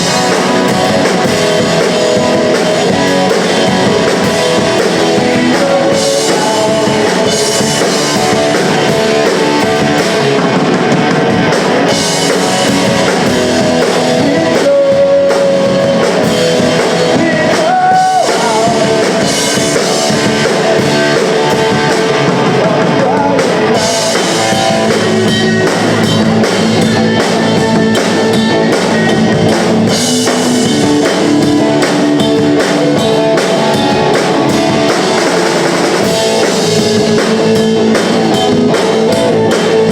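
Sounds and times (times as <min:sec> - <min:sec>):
punk rock band playing live: 0:00.0 - 0:39.9.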